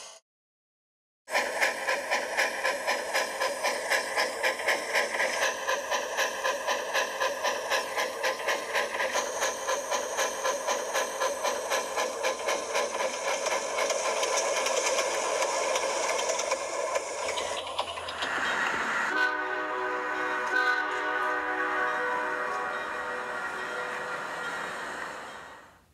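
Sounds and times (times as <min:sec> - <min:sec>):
model train motor hum: 0:01.3 - 0:25.9.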